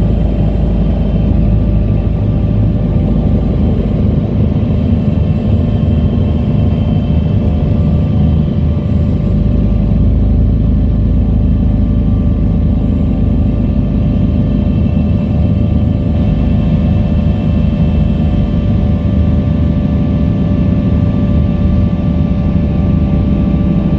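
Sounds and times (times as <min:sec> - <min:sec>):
helicopter rotor rumble: 0:00.0 - 0:23.9
turbine whining tones: 0:00.0 - 0:23.9.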